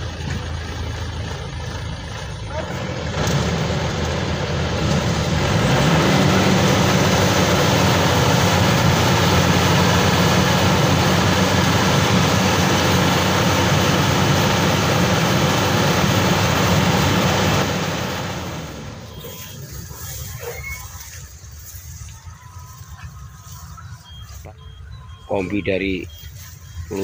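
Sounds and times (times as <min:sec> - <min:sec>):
harvester engine running hard: 0:00.0 - 0:27.0.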